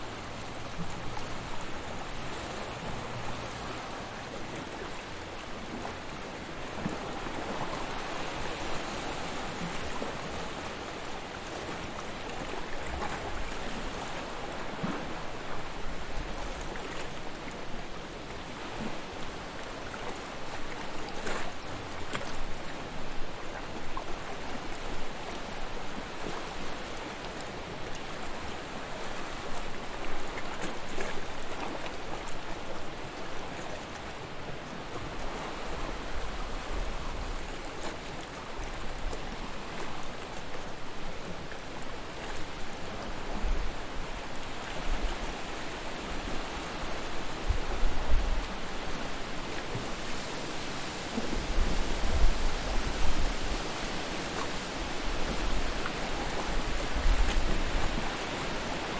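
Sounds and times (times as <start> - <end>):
sea waves washing onto shore: 0.0 - 58.9.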